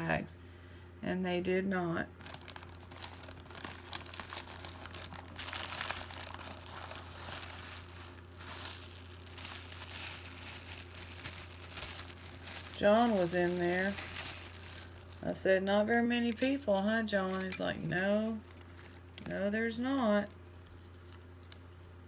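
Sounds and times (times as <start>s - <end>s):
low hum: 1.6s - 21.2s
plastic bag crinkling: 2.2s - 22.0s.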